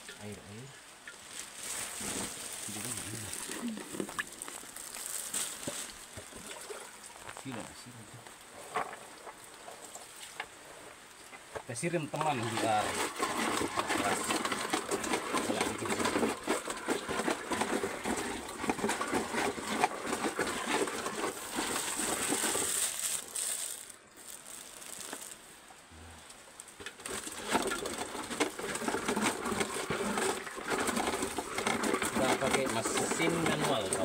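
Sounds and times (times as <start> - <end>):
coffee cherries rattling in pulper: 0.0 - 7.8, 11.8 - 25.5, 26.7 - 34.0.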